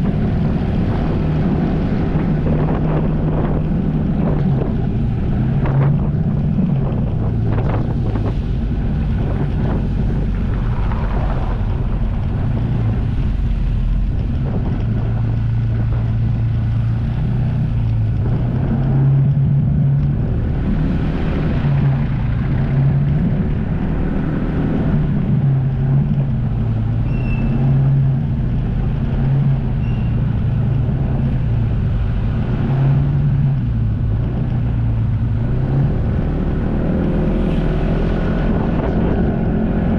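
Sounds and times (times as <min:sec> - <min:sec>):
jet ski engine running: 0:00.0 - 0:39.9
wind on microphone: 0:00.0 - 0:39.9.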